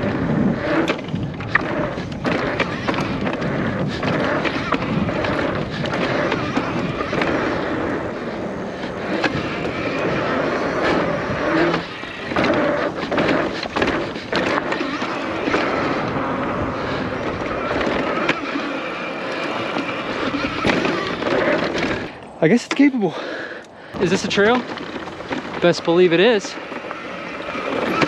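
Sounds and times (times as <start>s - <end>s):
bike knocking and rattling over bumps: 0.0s - 23.2s, 24.0s - 28.0s
tyre and wind noise: 0.0s - 28.0s.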